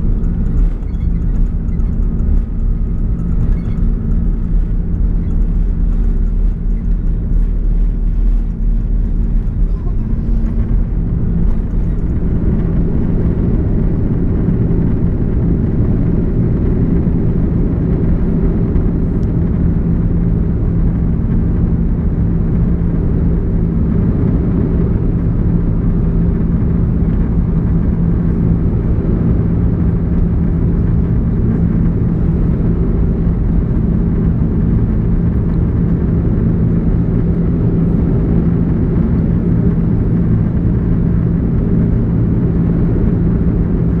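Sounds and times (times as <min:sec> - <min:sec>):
airplane cabin engine drone: 0:00.0 - 0:44.0.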